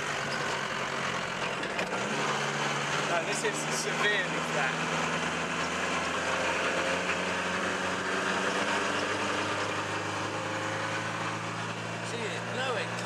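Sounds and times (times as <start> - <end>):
diesel engine droning in cab: 0.0 - 13.0.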